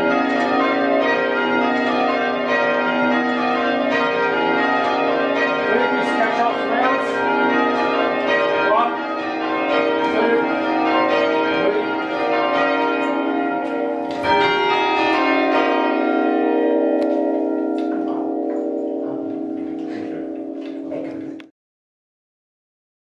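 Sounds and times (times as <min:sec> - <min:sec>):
church bells ringing: 0:00.0 - 0:21.5.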